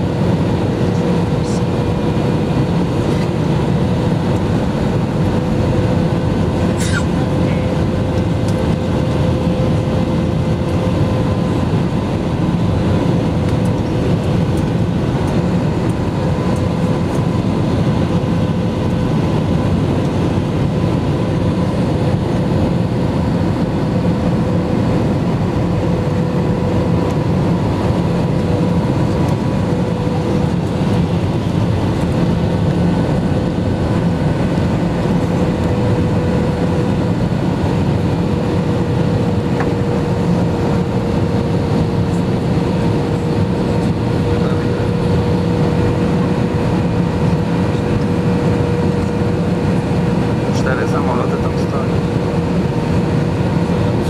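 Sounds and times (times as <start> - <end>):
jet engine and airflow rush: 0.0 - 54.0.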